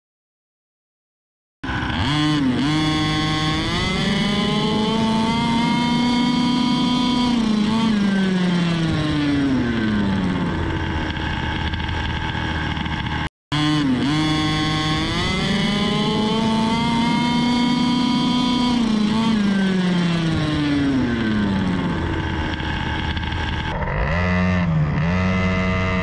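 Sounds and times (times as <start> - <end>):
engines accelerating: 1.6 - 26.0.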